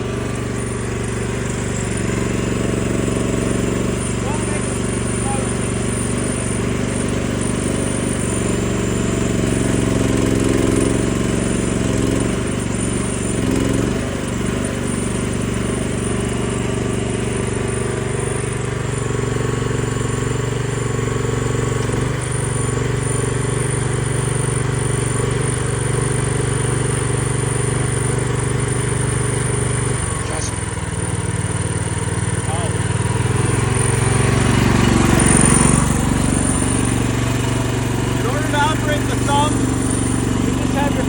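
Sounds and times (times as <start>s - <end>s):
mini excavator engine running: 0.0s - 41.0s.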